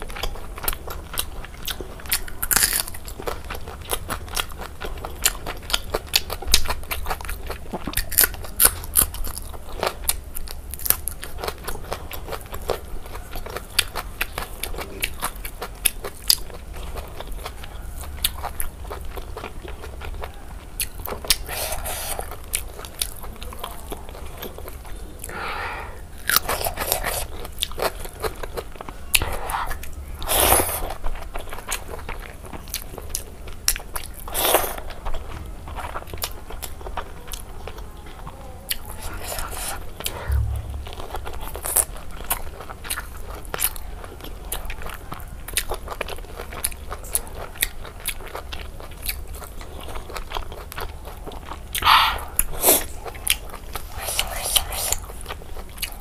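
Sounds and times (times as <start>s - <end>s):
close-miked wet chewing: 0.0s - 56.0s.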